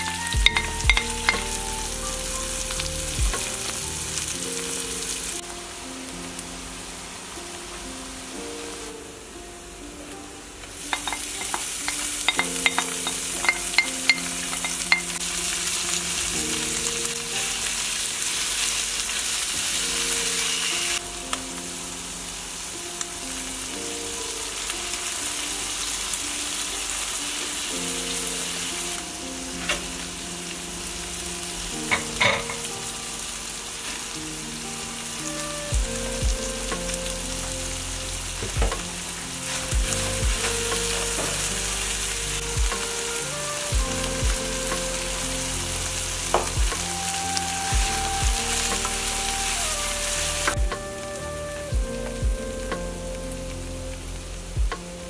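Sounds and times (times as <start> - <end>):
food sizzling in a frying pan: 0.0 - 5.4, 10.7 - 51.4.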